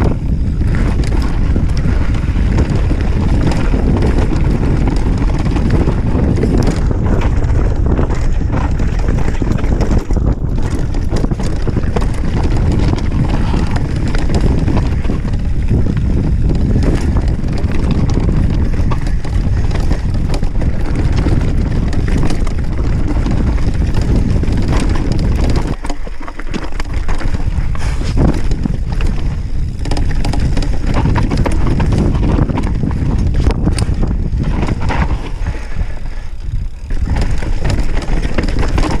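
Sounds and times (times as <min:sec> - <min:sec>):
bike knocks and rattles: 0:00.0 - 0:39.0
bike tyres rolling over dirt: 0:00.0 - 0:39.0
wind buffeting microphone: 0:00.0 - 0:39.0.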